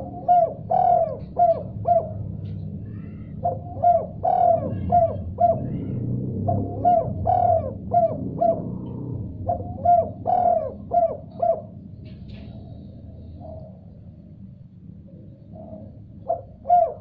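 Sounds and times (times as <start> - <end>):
dove cooing: 0.0 - 14.0, 15.1 - 17.0
steady low hum: 0.0 - 17.0.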